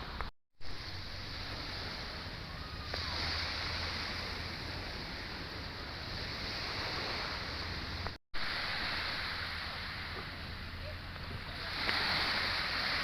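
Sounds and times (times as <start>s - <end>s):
sea surf washing on beach: 0.0s - 13.0s
wind: 0.0s - 13.0s.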